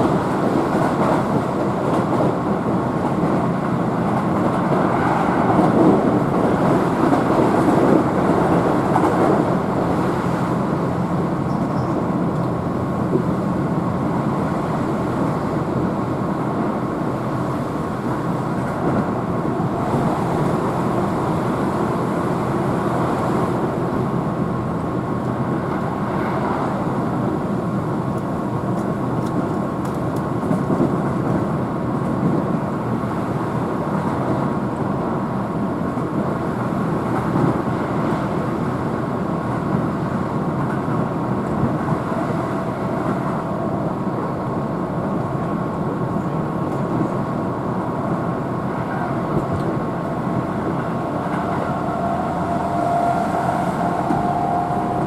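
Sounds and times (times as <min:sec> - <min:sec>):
train wheels on rail: 0:00.0 - 0:55.0.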